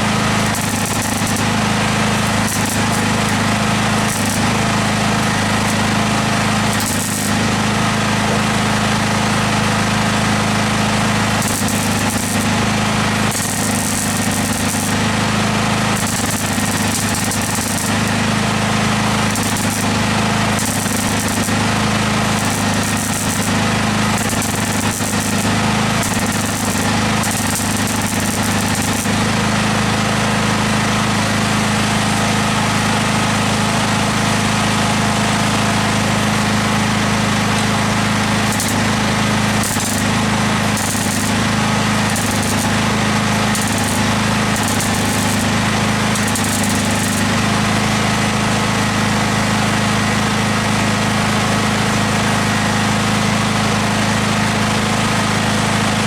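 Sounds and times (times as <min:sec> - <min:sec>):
welding arc crackle: 0:00.0 - 0:30.8, 0:35.4 - 0:49.7
welder electrical buzz: 0:00.0 - 0:32.3, 0:34.9 - 0:50.7.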